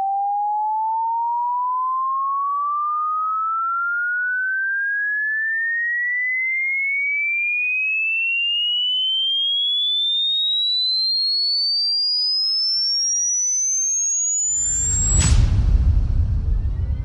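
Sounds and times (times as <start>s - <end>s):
sine tone sweep rising in pitch: 0.0s - 17.0s.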